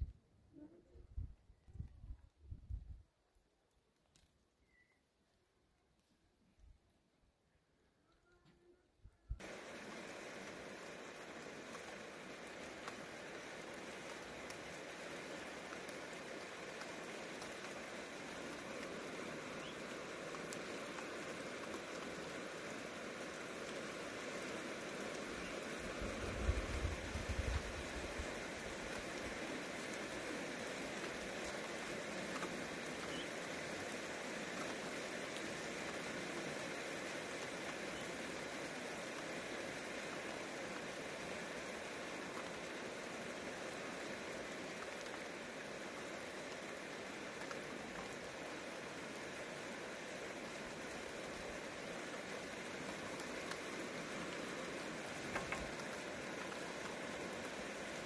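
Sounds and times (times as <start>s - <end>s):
heavy rain falling: 9.4s - 58.0s.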